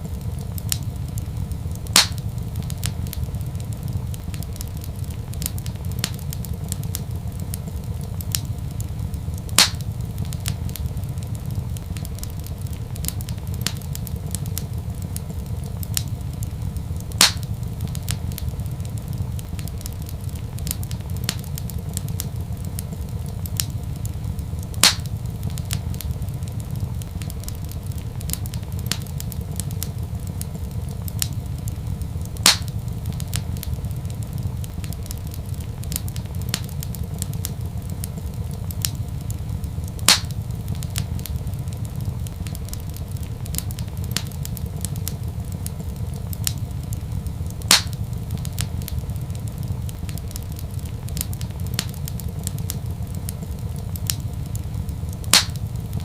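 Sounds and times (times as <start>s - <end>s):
fire pops: 0.0s - 56.0s
wood fire crackling: 0.0s - 56.0s.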